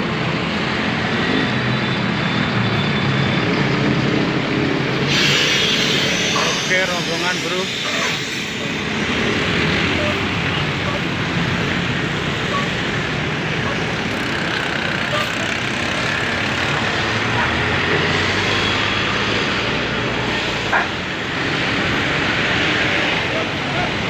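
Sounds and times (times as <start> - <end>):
vehicle road noise: 0.0 - 24.0.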